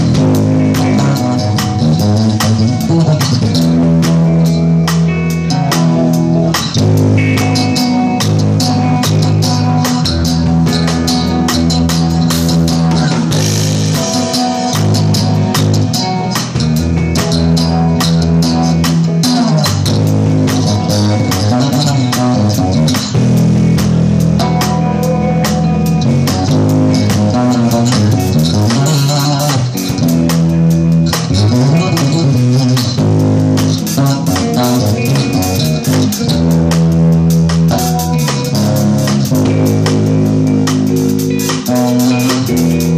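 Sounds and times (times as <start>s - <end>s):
electric bass guitar solo: 0.0s - 42.9s.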